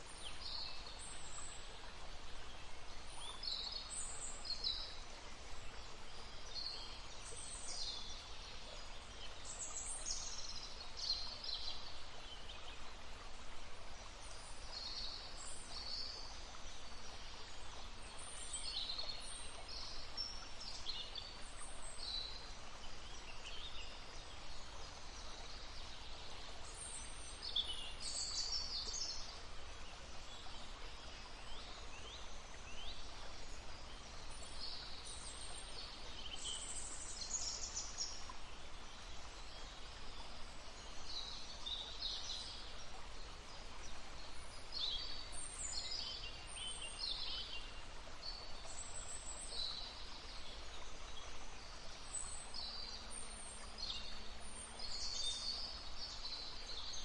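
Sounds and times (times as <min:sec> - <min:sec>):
songbirds chirping: 0:00.0 - 0:57.0
stream babbling: 0:00.0 - 0:57.0.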